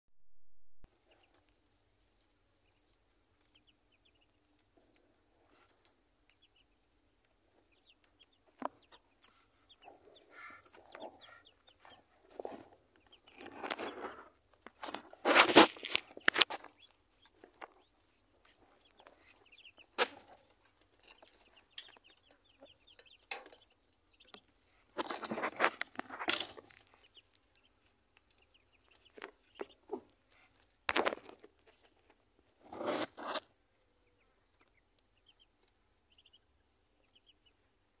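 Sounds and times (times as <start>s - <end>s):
ducklings peeping: 0.9s - 38.0s.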